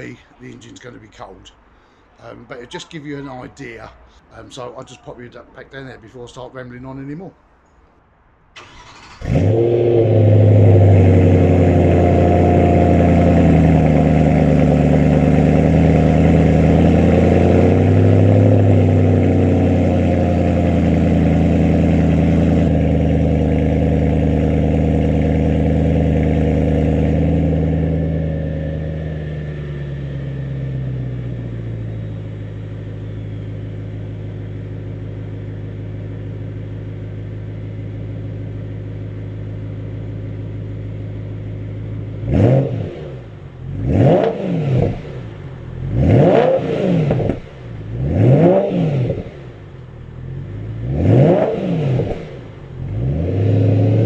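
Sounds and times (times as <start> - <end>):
car engine idling: 8.5 - 54.0.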